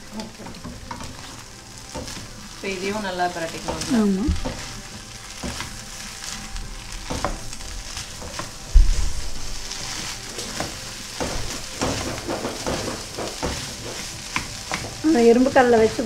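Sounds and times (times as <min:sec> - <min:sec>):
food sizzling in a frying pan: 0:00.0 - 0:16.0
spatula scraping and tapping pan: 0:00.1 - 0:02.6, 0:03.2 - 0:16.0.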